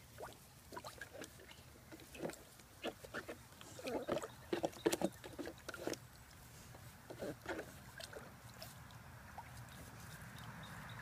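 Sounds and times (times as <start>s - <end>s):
water splashing in a pool: 0.0s - 10.9s.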